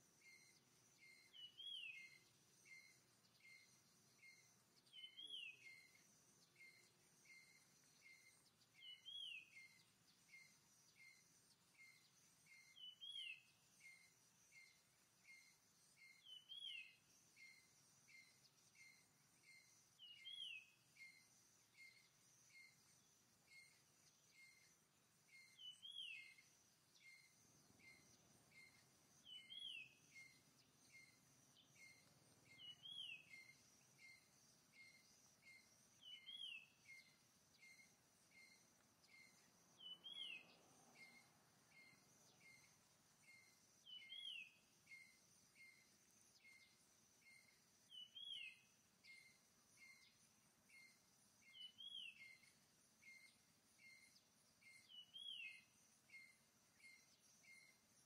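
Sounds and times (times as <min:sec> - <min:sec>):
faint birdsong: 0:00.0 - 0:58.0
bird chirps: 0:00.2 - 0:57.9.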